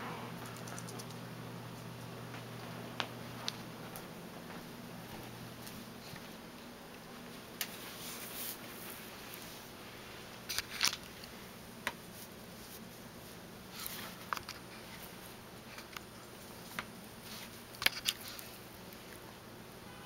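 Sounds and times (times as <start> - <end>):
soft clicks and rustles: 0.4 - 19.3.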